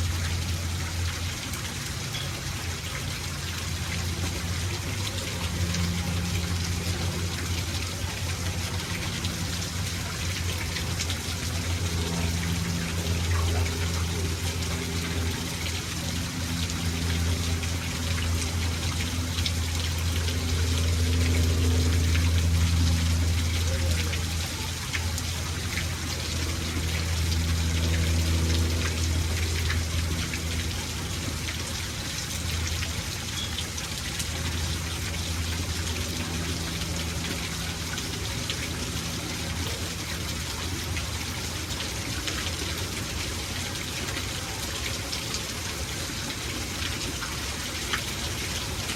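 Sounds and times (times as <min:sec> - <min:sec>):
steady rainfall hiss: 0:00.0 - 0:48.9.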